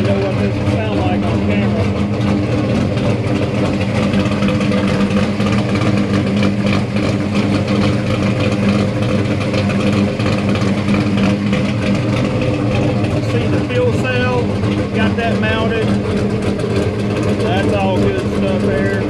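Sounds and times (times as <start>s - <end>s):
engine idling through exhaust: 0.0s - 19.0s.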